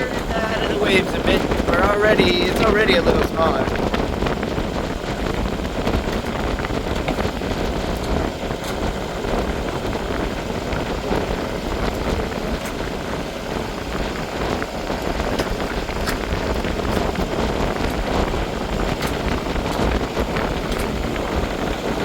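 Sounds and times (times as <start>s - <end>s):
low steady drone: 0.0s - 22.0s
water rushing past boat: 0.0s - 22.0s
wind rushing: 0.0s - 22.0s.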